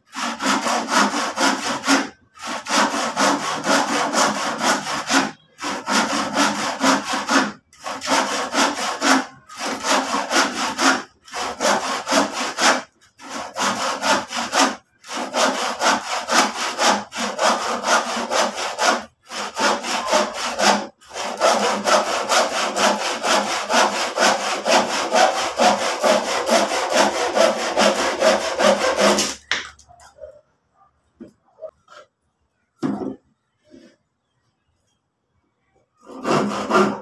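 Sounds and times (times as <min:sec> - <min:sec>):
handsaw cutting wood: 0:00.1 - 0:29.6, 0:36.0 - 0:37.0.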